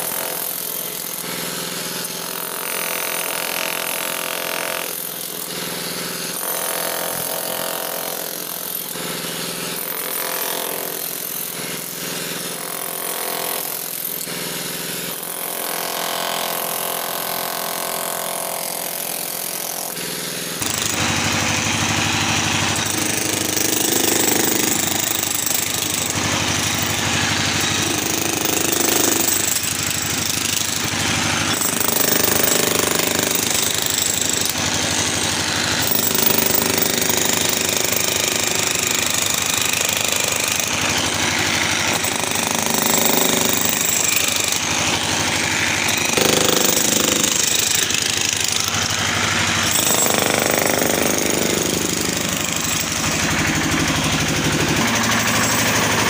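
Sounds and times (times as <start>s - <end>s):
demolition hammer chiselling concrete: 0.0s - 56.0s.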